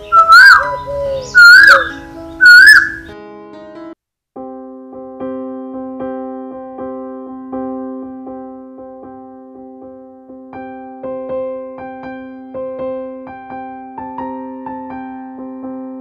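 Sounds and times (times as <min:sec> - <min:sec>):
keyboard playing chords: 0:00.0 - 0:03.4, 0:05.1 - 0:16.0.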